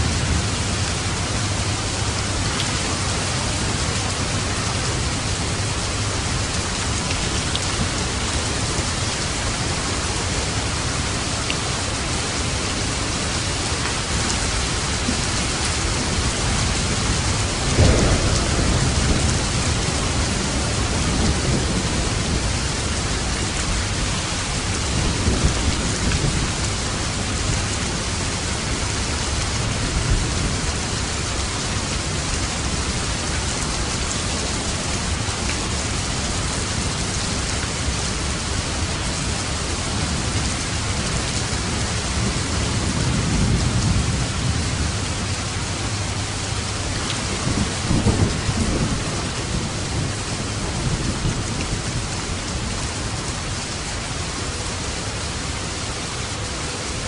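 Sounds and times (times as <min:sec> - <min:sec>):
thunder clap and rumble: 0:00.0 - 0:53.6
rain drumming on roof: 0:00.0 - 0:57.0.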